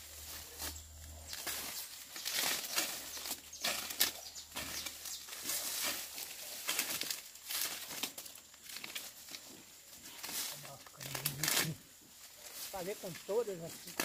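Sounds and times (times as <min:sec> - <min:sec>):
rustling of cut vegetation: 0:00.0 - 0:14.0.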